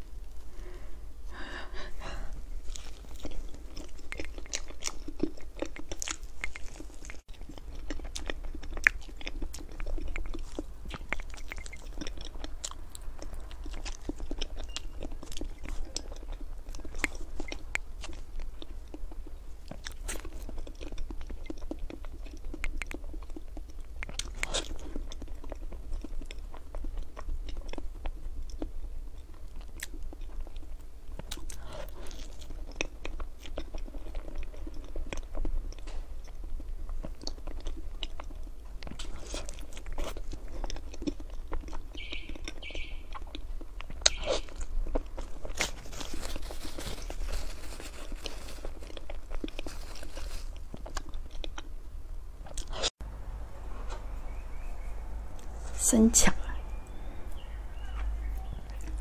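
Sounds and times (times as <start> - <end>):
close chewing with mouth clicks: 0.0 - 53.1, 56.3 - 59.0.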